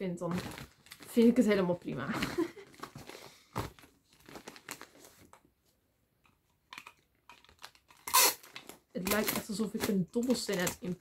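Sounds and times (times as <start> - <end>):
wrapping paper crinkling: 0.3 - 5.4, 6.8 - 11.0.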